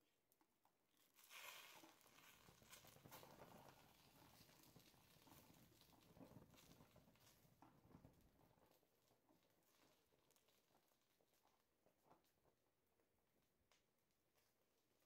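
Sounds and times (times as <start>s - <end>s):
wood crackling and popping: 0.3s - 15.0s.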